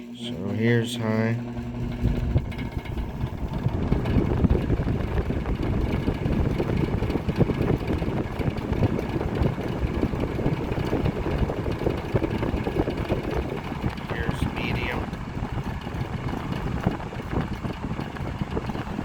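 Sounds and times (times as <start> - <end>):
box fan air rush: 0.0 - 19.0.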